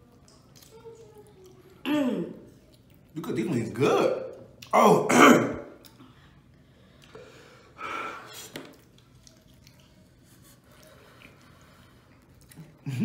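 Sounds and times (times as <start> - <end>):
faint chewing: 0.0 - 3.3, 4.3 - 4.8, 5.7 - 13.0.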